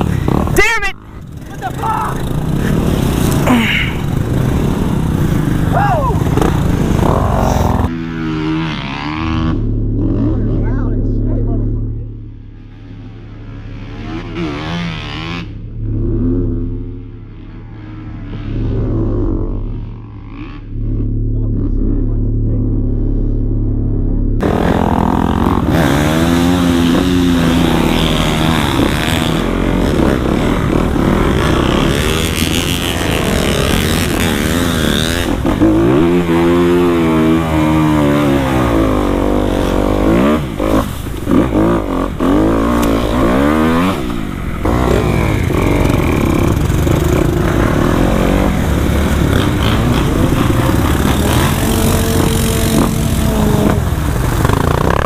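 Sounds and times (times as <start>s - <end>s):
dirt bike engine revving: 0.0s - 55.0s
low engine hum: 1.1s - 55.0s.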